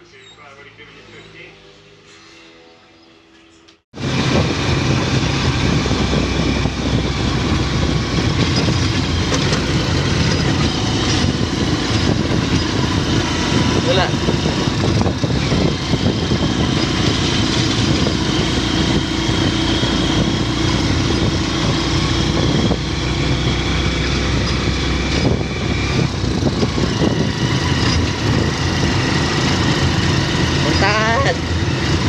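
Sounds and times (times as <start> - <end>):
mechanical drone: 4.0 - 32.0.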